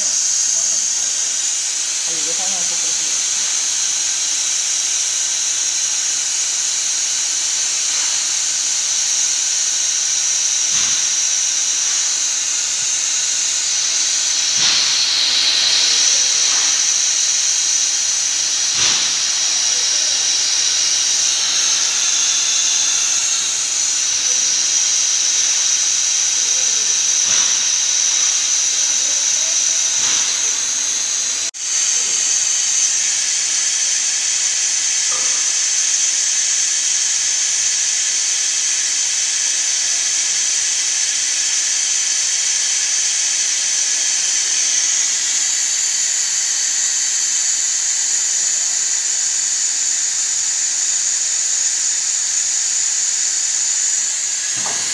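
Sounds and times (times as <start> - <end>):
high-pitched hiss: 0.0 - 54.9.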